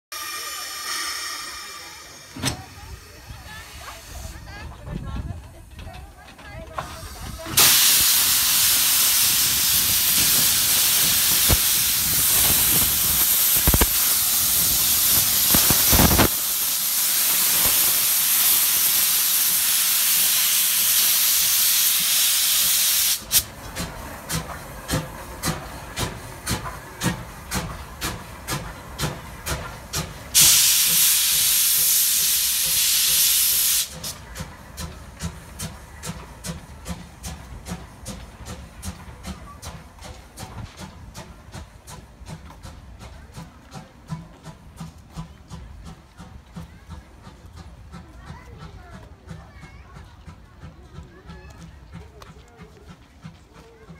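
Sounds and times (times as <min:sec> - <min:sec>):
steam locomotive chuffing: 0:00.1 - 0:53.9
steam locomotive hissing steam: 0:00.1 - 0:53.9.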